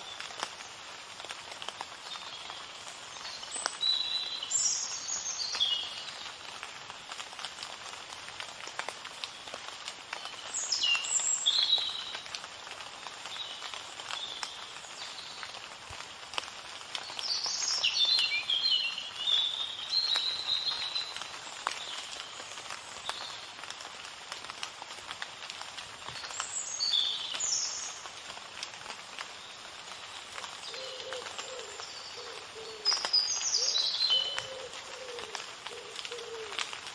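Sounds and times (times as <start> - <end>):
outdoor hiss: 0.0 - 36.9.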